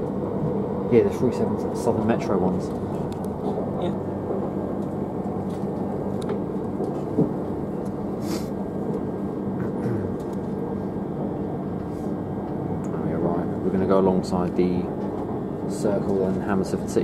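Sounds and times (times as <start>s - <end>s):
train carriage running rumble: 0.0s - 17.0s.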